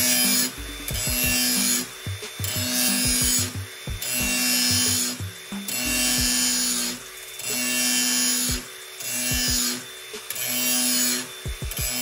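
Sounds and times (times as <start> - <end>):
angle grinder grinding steel blade: 0.0 - 12.0.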